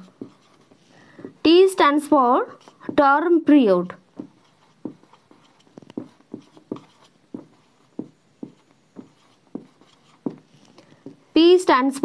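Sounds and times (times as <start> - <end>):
marker writing on whiteboard: 0.0 - 11.7.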